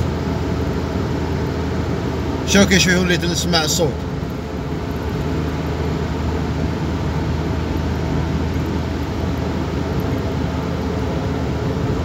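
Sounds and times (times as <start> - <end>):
engine low hum: 0.0 - 12.0.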